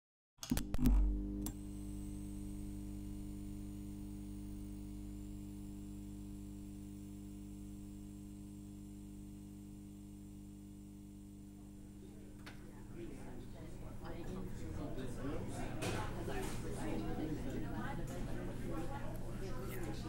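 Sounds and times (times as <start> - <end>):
low electrical hum: 0.8 - 20.0.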